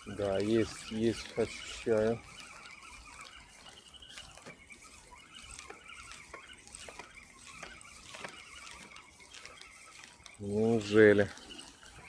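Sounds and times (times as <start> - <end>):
fishing reel whirring and clicking: 0.0 - 12.0.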